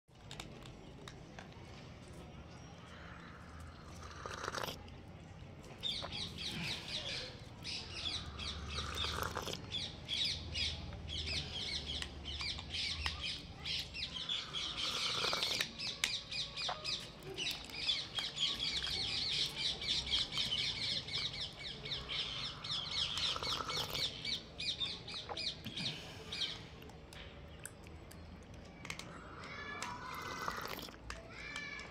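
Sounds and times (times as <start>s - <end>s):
birds chattering: 0.1s - 31.9s.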